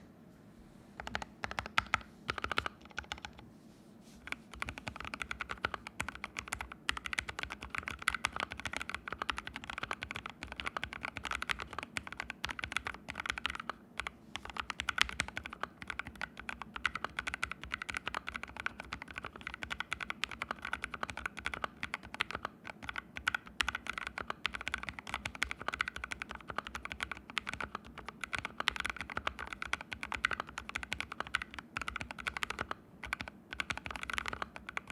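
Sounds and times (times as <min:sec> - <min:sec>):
mechanical keyboard typing: 0:01.0 - 0:03.4, 0:04.3 - 0:34.9.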